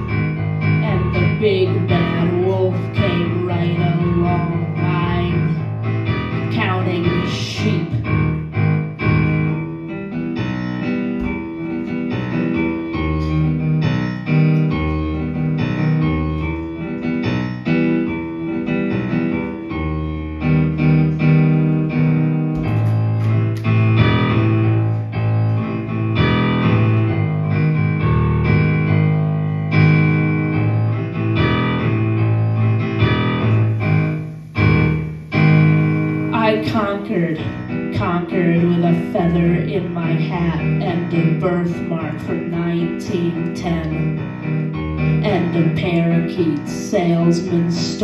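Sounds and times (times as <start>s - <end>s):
keyboard chords: 0.0s - 48.0s.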